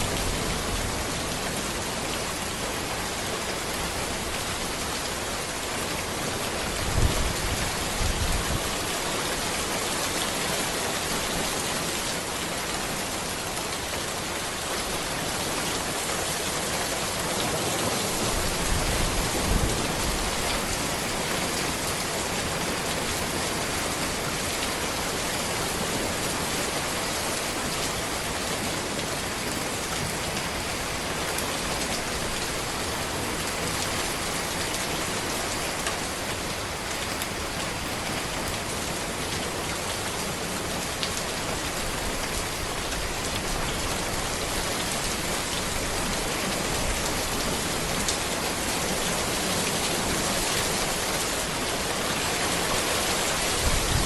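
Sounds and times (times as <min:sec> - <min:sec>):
rain falling on road and trees: 0:00.0 - 0:54.0.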